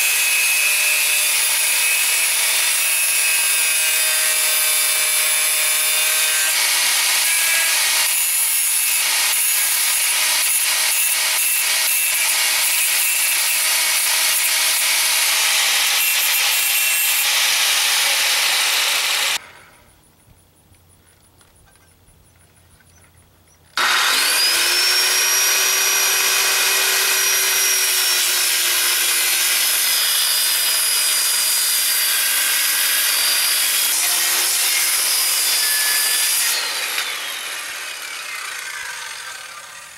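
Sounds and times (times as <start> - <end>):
angle grinder grinding metal: 0.0 - 19.5, 23.8 - 39.9
circular saw cutting plywood: 0.0 - 19.5, 23.8 - 39.9.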